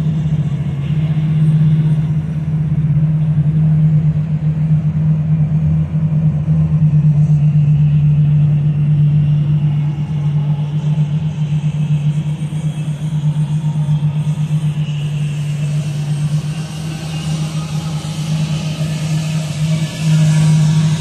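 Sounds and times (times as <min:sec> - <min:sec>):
boat diesel engines droning: 0:00.0 - 0:21.0.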